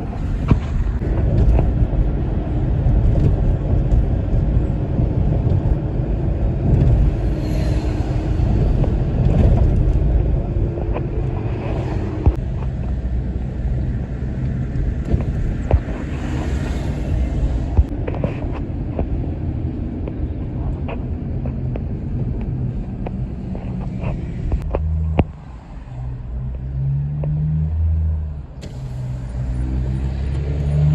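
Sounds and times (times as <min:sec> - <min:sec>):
road and engine rumble: 0:00.0 - 0:30.9.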